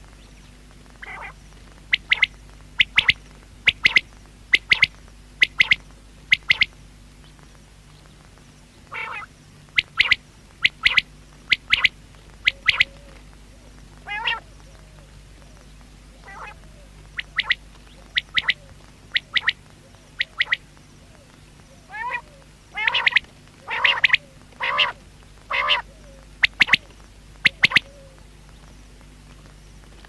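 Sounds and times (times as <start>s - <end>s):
quail rasping calls: 1.0s - 6.8s, 8.8s - 28.2s
quail short sharp calls: 1.0s - 6.8s, 8.9s - 28.2s.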